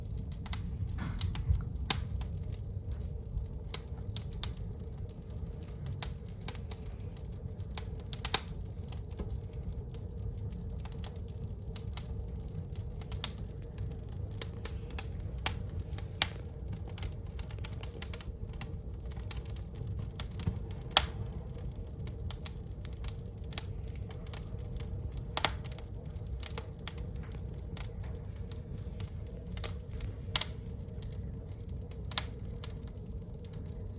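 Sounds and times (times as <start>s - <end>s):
low steady rumble: 0.0s - 33.9s
wood fire crackling: 0.0s - 33.9s
sharp pops of fire: 0.1s - 33.6s.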